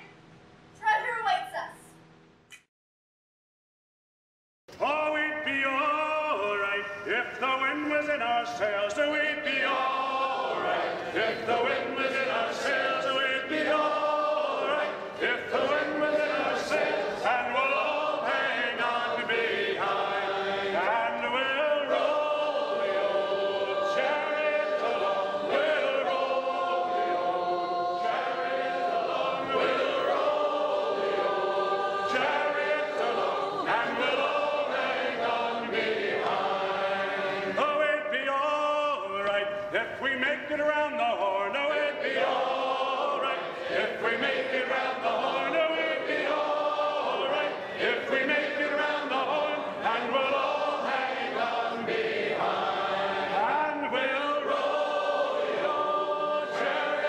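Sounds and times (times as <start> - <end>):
choir singing long notes: 4.9 - 39.5, 41.1 - 57.0.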